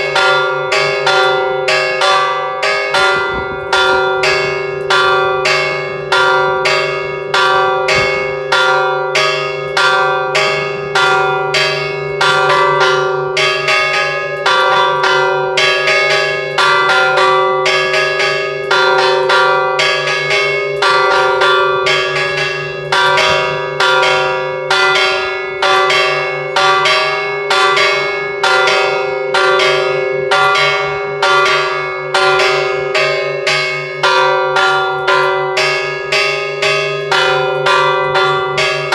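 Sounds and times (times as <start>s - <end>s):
church bell ringing: 0.0s - 38.9s.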